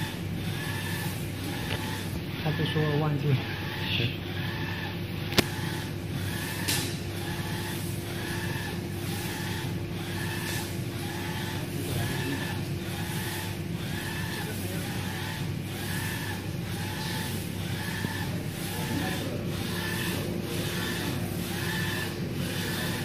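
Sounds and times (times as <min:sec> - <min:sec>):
printer carriage whirring: 0:00.0 - 0:23.0
steady machine hum: 0:00.0 - 0:23.0.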